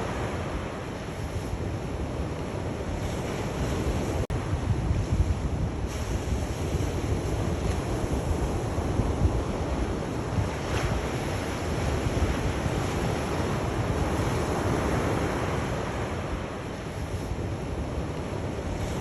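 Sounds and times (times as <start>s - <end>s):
low wind rumble: 0.0s - 19.0s
sea waves washing on shore: 0.0s - 19.0s.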